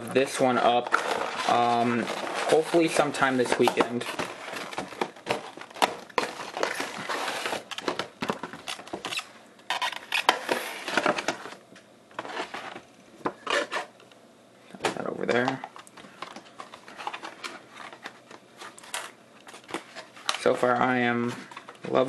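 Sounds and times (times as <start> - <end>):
cardboard and plastic scraping: 0.1 - 11.6, 12.2 - 13.9, 15.4 - 22.0.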